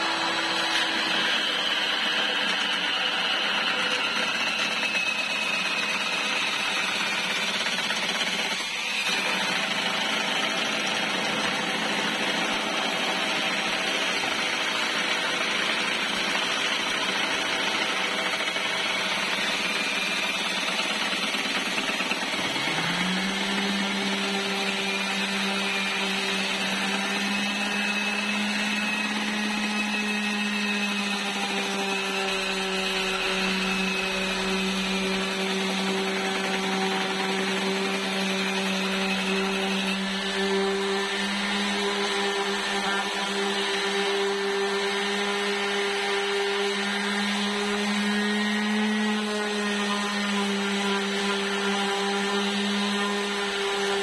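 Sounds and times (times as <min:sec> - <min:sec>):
electric sander humming: 0:00.0 - 0:12.2, 0:13.0 - 0:54.0.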